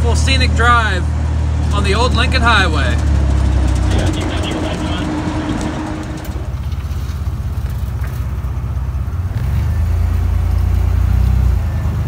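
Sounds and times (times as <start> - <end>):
jeep engine rumbling: 0.0 - 12.0.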